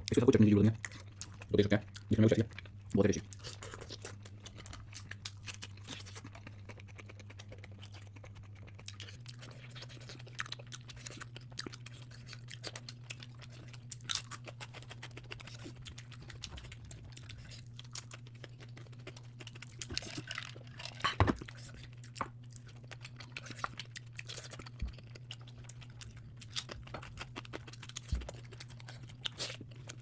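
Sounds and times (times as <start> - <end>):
close chewing with wet clicks: 0.0 - 20.7, 21.4 - 30.0
faint low hum: 0.0 - 30.0.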